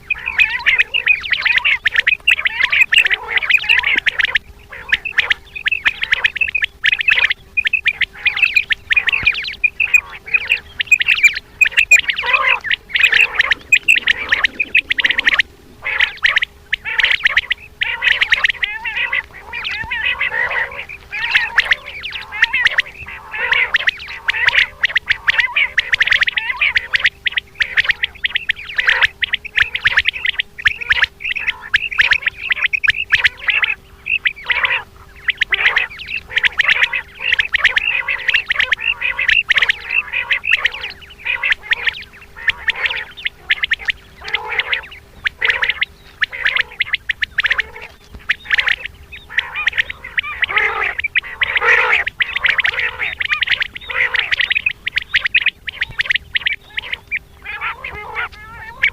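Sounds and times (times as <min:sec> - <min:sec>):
faint steady hum: 0:00.0 - 0:58.9
quail calling: 0:00.0 - 0:58.9.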